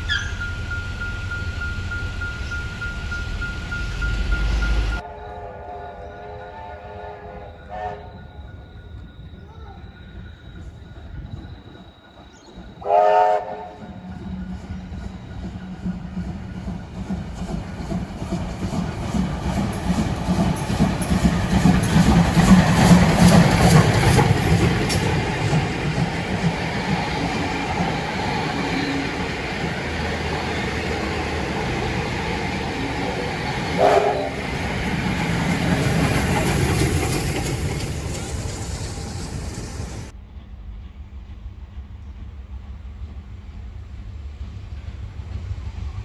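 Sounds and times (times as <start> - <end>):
train running on rails: 0.0 - 46.0.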